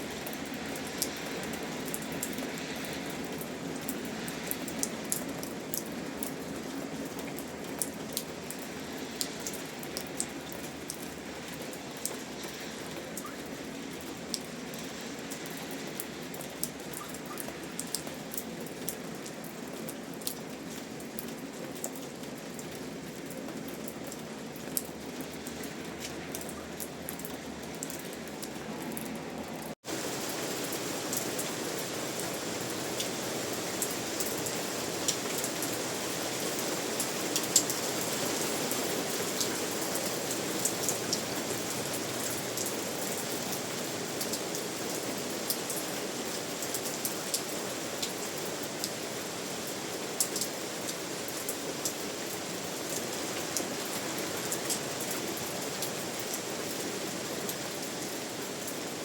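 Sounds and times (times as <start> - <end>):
rain falling: 0.0 - 59.0
raindrops ticking on a surface: 0.1 - 59.0.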